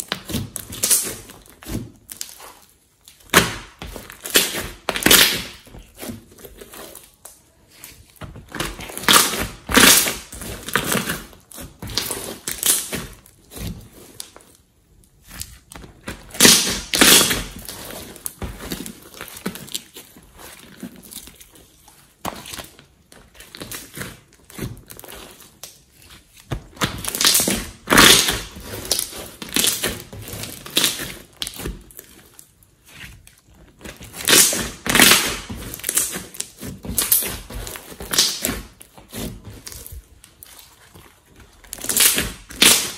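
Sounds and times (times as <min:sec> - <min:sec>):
slime squelching and crackling: 0:00.0 - 0:42.9.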